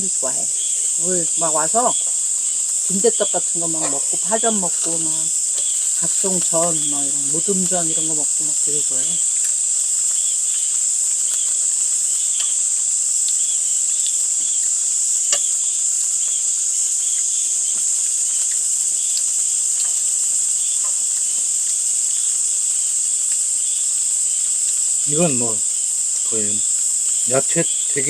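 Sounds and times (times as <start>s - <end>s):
crickets and insects shrilling: 0.0s - 28.0s.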